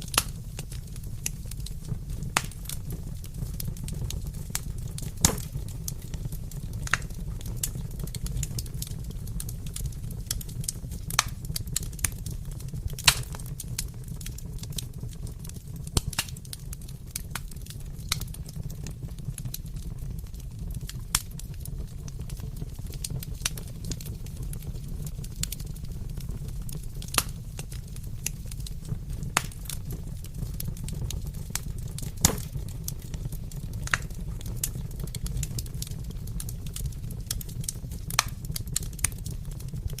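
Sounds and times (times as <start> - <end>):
low fire rumble: 0.0 - 40.0
wood fire crackling and popping: 0.0 - 40.0.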